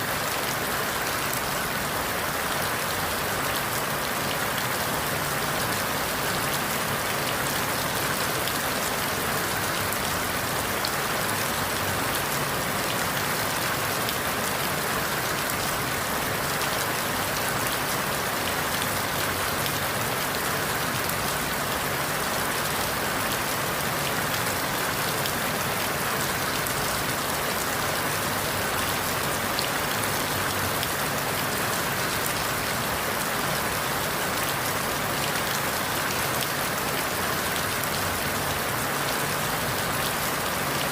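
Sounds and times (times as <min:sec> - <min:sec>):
rain falling through leaves: 0:00.0 - 0:40.9.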